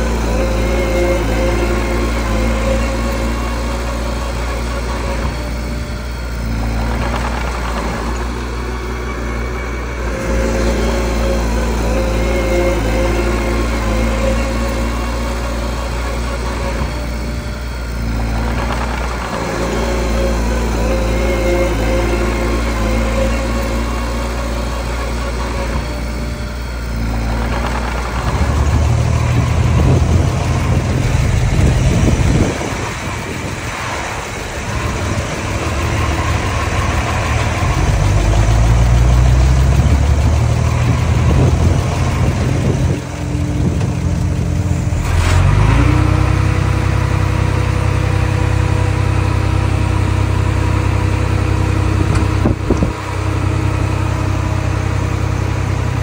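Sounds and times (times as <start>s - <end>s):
diesel engine working: 0.0s - 56.0s.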